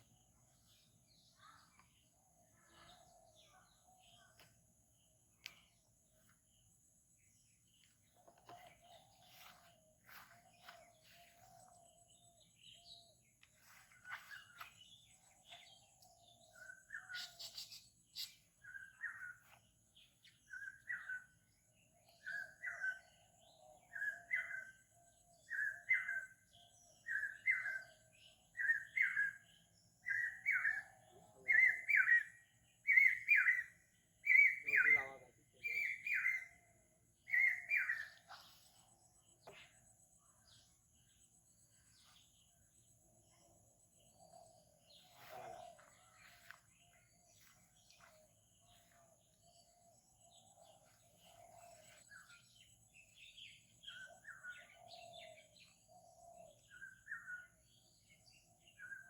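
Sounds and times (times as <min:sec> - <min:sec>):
faint bird chirps: 0:00.0 - 0:59.0.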